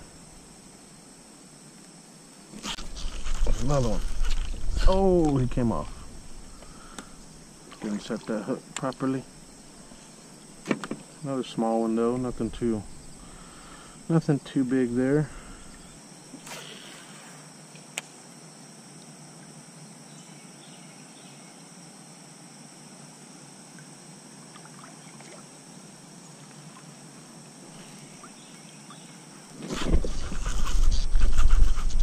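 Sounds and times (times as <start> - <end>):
high insect drone: 0.0 - 32.0
creek ambience: 2.3 - 20.0, 23.6 - 31.6.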